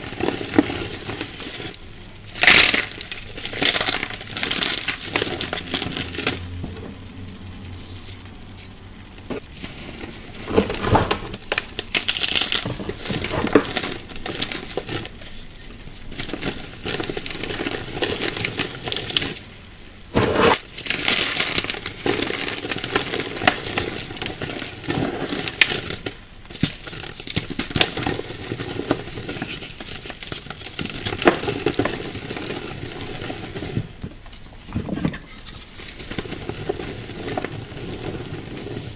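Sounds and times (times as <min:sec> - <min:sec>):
hands crushing dry clay: 0:00.0 - 0:06.6, 0:07.8 - 0:19.5, 0:20.1 - 0:38.9.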